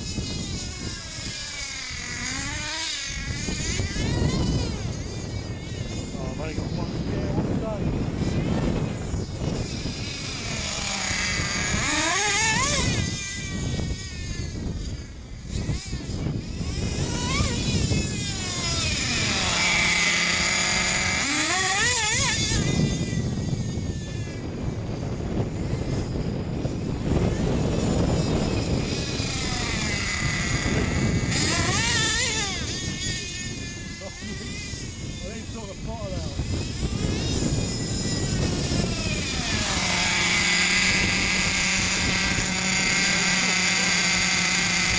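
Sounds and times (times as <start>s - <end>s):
small model engines revving: 0.0s - 44.9s.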